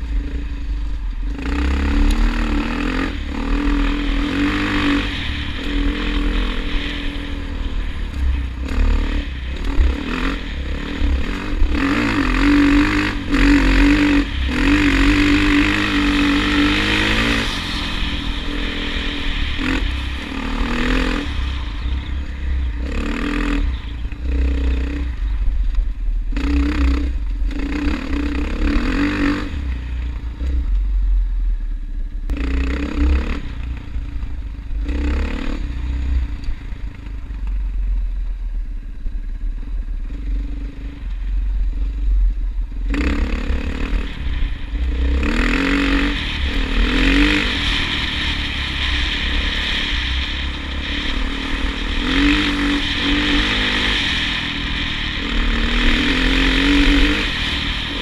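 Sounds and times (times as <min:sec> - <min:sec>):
low rumble and rattling: 0:00.0 - 0:58.0
vehicle engine running: 0:00.0 - 0:58.0.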